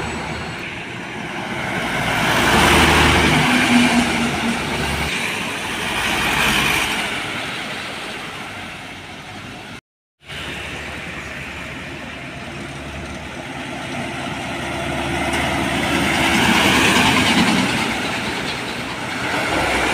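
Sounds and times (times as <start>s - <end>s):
large diesel vehicles passing: 0.0s - 19.9s.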